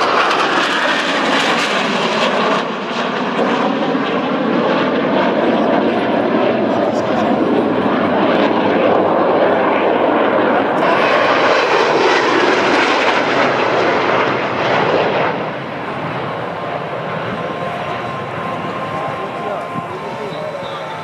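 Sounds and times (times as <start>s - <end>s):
jet engines roaring overhead: 0.0s - 21.0s.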